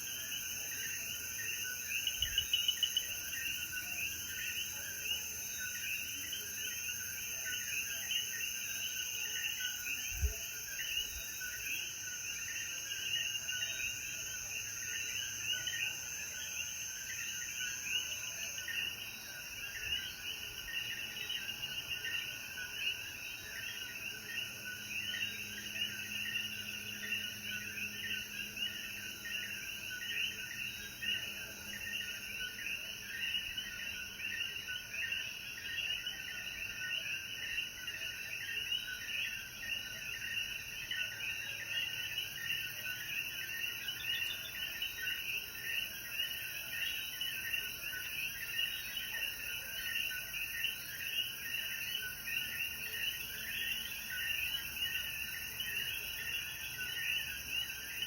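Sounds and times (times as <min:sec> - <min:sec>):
frogs calling in chorus: 0:00.0 - 0:58.0.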